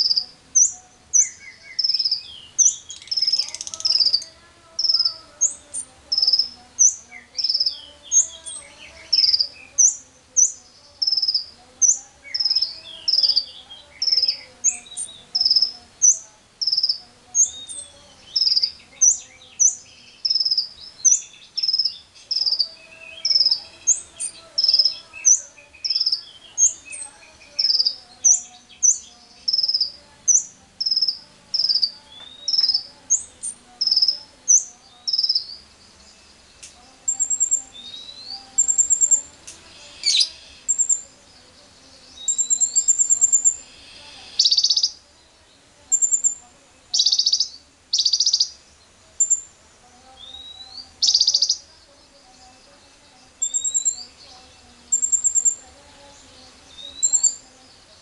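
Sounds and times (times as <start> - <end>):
sharp high bird chirp: 0.0 - 41.2, 42.0 - 45.0, 45.9 - 48.6, 49.2 - 49.5, 50.2 - 51.7, 53.3 - 54.2, 54.9 - 55.6, 56.7 - 57.4
birds twittering: 0.0 - 58.0.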